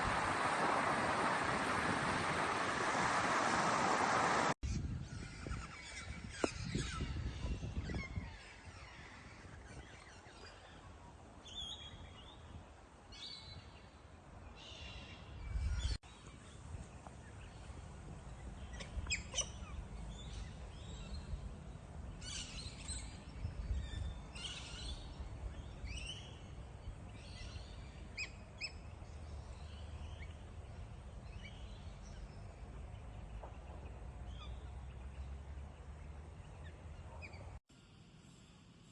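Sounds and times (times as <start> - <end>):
low outdoor rumble: 0.0 - 5.1, 10.6 - 37.6
birds chirping: 0.0 - 37.6.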